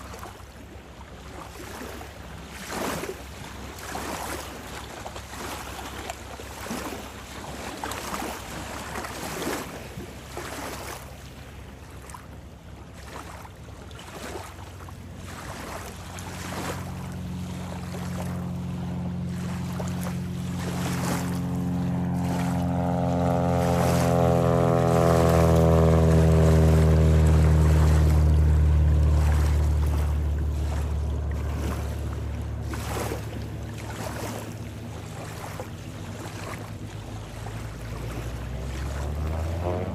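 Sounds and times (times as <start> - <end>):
lake water lapping: 0.0 - 39.9
propeller aircraft engine drone: 0.0 - 39.9.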